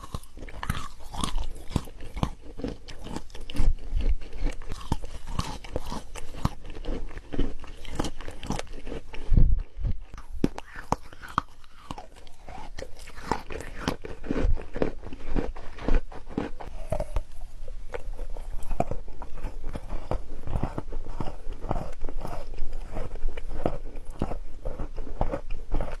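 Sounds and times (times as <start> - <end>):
candy crunching: 0.0 - 26.0.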